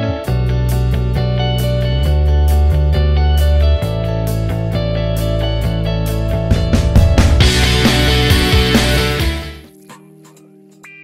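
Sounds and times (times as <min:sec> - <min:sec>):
rock music with guitar: 0:00.0 - 0:09.7
drums: 0:00.2 - 0:09.7.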